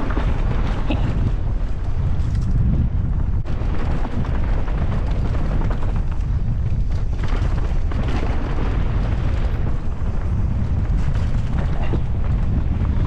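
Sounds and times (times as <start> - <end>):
tyres rolling on dirt: 0.0 - 13.0
wind rumbling on microphone: 0.0 - 13.0.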